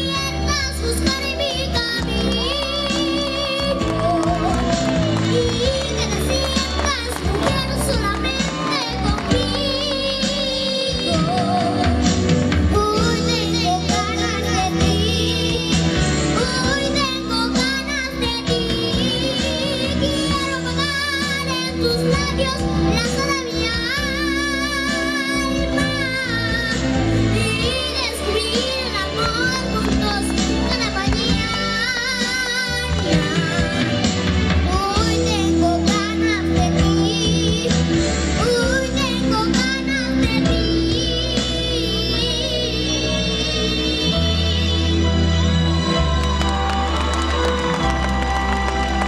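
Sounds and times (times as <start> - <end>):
boy singing into a microphone: 0.0 - 4.5, 5.3 - 33.7, 34.6 - 45.2
accompanying music: 0.0 - 49.0.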